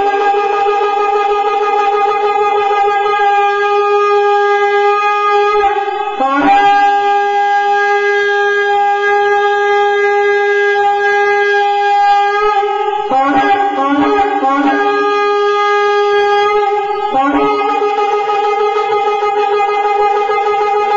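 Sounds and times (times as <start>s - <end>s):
cattle horn long notes: 1.7s - 20.9s.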